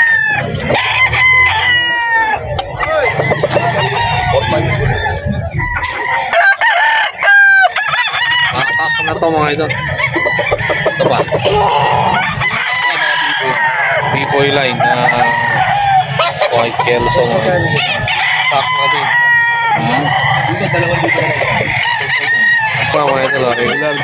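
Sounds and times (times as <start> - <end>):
roosters clucking: 0.0 - 24.0
roosters crowing: 0.0 - 24.0.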